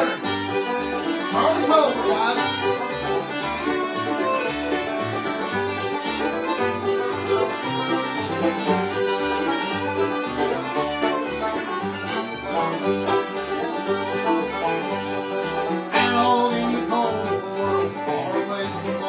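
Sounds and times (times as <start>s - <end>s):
banjo rolls: 0.0s - 19.0s
bluegrass band playing: 0.0s - 19.0s.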